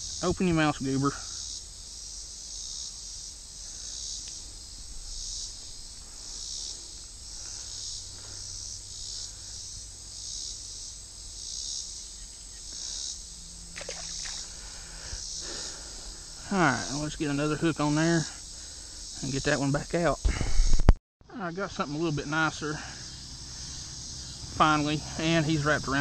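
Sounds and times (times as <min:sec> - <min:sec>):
insects buzzing: 0:00.0 - 0:20.5, 0:21.3 - 0:26.0.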